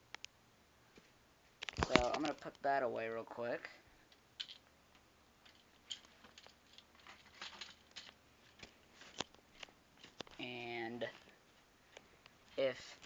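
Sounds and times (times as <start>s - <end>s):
small handling clicks and rustles: 1.0s - 2.6s, 4.0s - 13.0s.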